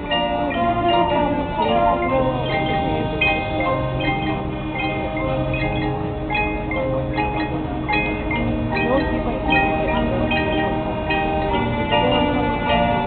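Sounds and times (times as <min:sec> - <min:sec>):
marching band mallet percussion: 0:00.0 - 0:13.0.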